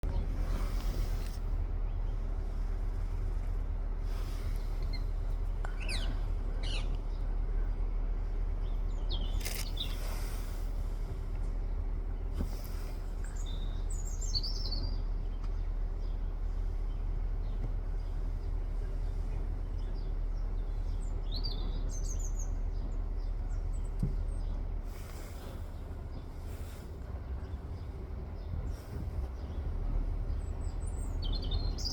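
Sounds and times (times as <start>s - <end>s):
low rumble: 0.0s - 31.9s.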